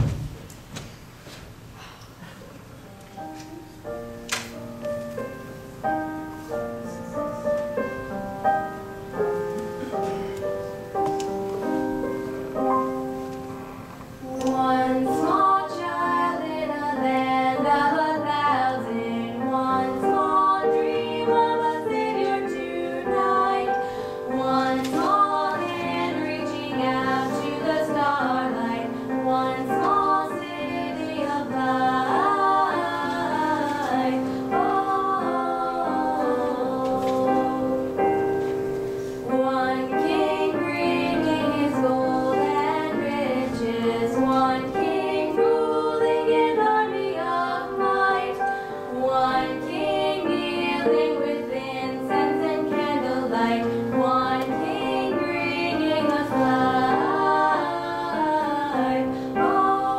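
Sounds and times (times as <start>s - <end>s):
girls singing a duet: 3.2s - 59.9s.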